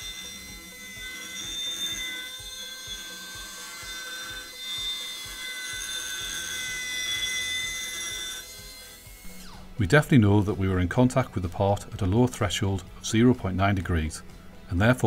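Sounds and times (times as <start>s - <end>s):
deburring spindle high whine: 0.0s - 15.0s.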